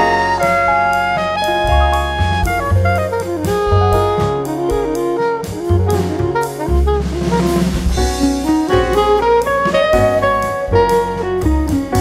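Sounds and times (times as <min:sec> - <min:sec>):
jazz with saxophone and drums: 0:00.0 - 0:12.0.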